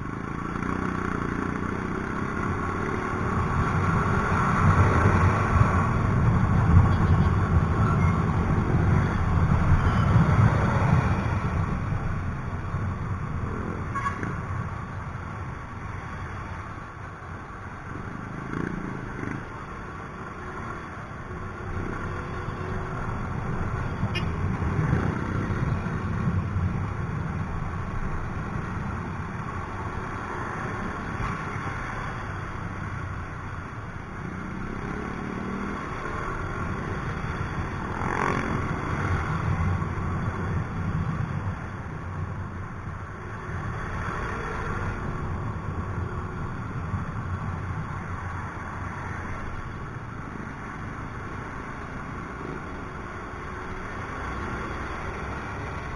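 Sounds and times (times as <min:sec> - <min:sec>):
road and wind noise: 0:00.0 - 0:55.9
traffic engines: 0:00.0 - 0:55.9.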